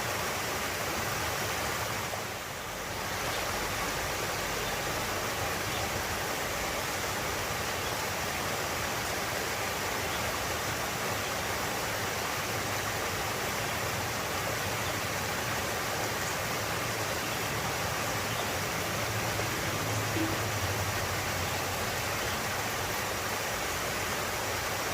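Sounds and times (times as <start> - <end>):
flowing water rushing: 0.0 - 24.9.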